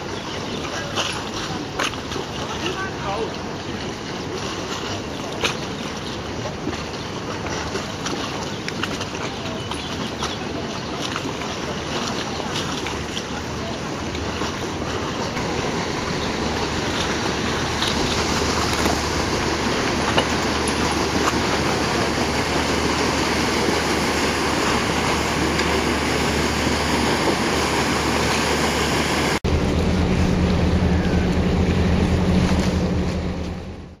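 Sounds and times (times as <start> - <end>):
churning water from paddle wheels: 0.0 - 34.0
low engine hum: 0.0 - 34.0.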